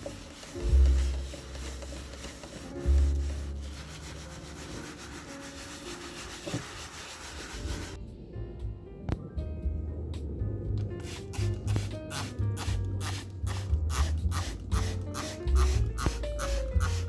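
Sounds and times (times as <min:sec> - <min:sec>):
steady rubbing noise: 0:00.0 - 0:08.0, 0:10.4 - 0:17.0
background music with bass line: 0:00.0 - 0:17.0.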